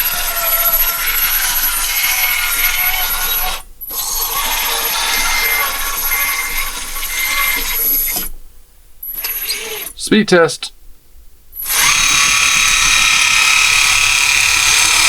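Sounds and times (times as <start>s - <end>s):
toy bulldozer motor and gears: 0.0s - 8.4s, 9.1s - 10.0s, 11.6s - 15.0s.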